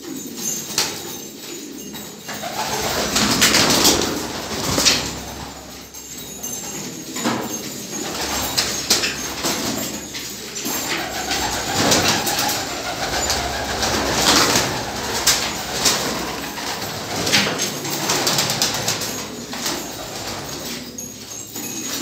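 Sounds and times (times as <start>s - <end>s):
pigeons cooing: 0.0s - 22.0s
wings flapping and clapping: 2.2s - 5.9s, 6.7s - 22.0s.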